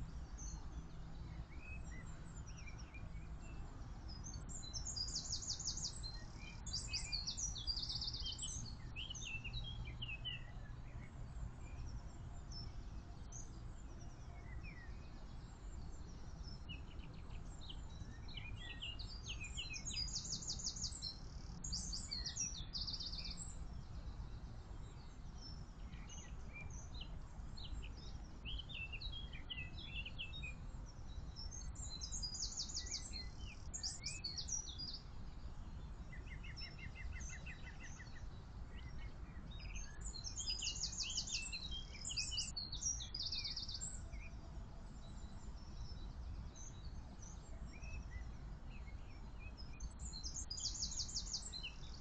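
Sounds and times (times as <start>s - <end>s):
songbirds singing: 0.0s - 52.0s.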